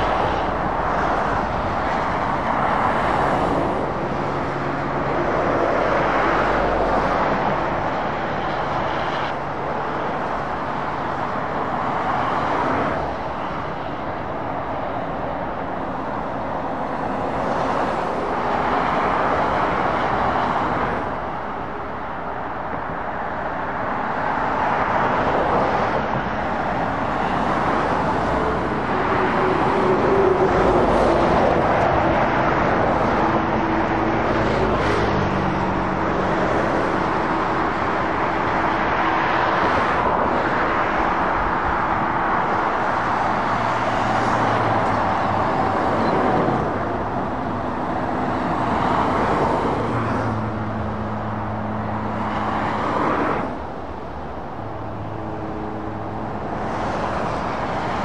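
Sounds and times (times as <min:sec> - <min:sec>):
diesel truck engines humming: 0:00.0 - 0:58.0
tyre rush of passing traffic: 0:00.0 - 0:58.0.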